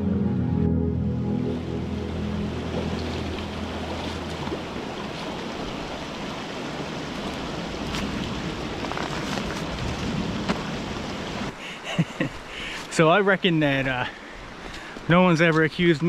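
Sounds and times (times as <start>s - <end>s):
creek rushing: 1.4s - 16.0s.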